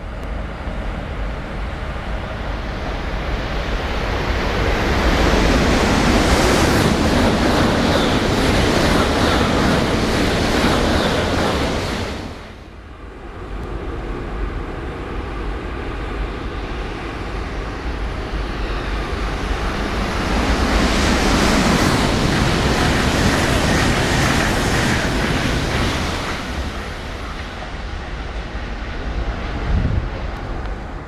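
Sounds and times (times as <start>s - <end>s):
high-speed train rushing past: 0.0s - 31.0s.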